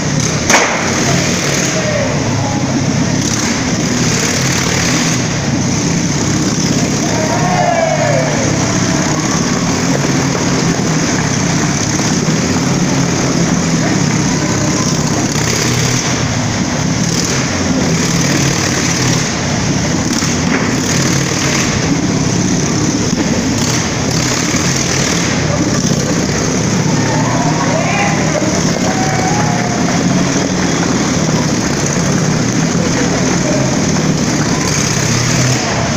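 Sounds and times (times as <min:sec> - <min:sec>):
motorcycle engines running: 0:00.0 - 0:35.9.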